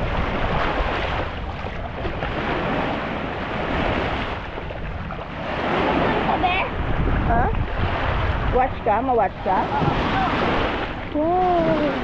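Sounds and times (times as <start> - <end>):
sea waves washing on shore: 0.0 - 12.0
wind rumbling on microphone: 0.0 - 12.0.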